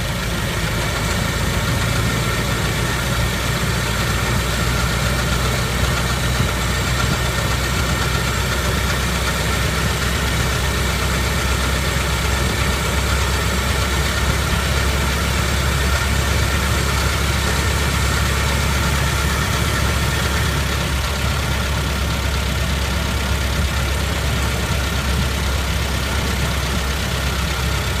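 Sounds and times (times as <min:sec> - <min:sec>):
old car engine running: 0:00.0 - 0:28.0.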